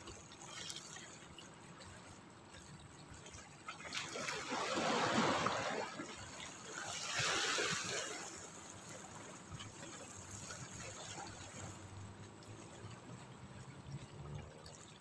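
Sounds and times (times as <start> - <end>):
waves lapping on rocks: 0.0 - 15.0.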